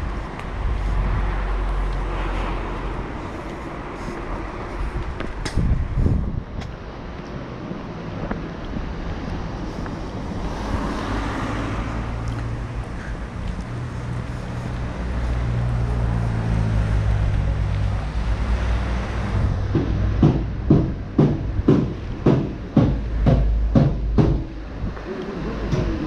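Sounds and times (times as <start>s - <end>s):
street traffic: 0.0s - 26.0s
vehicle engine humming: 0.0s - 26.0s.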